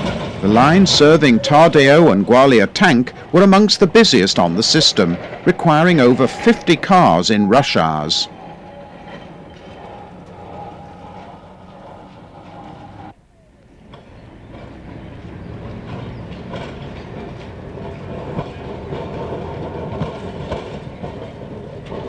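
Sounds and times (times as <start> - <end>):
tram rumbling on rails: 0.0 - 22.0
wheels clicking over track: 0.0 - 22.0.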